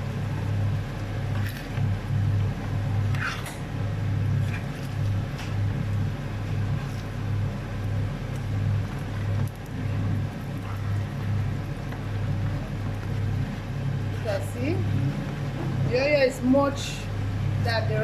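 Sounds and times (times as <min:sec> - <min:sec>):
low pulsing hum: 0:00.0 - 0:18.0
rice frying in oil: 0:00.0 - 0:18.0.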